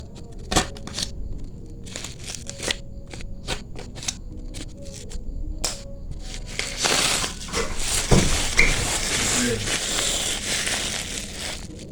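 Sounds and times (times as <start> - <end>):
packaging crinkling and rustling: 0.0 - 11.9.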